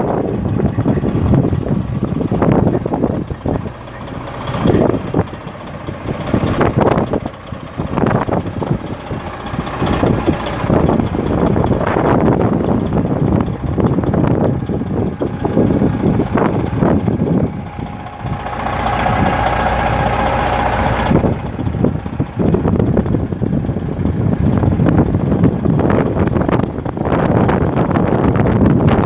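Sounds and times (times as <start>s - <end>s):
diesel truck idling: 0.0s - 29.0s
wind buffeting on microphone: 0.0s - 29.0s.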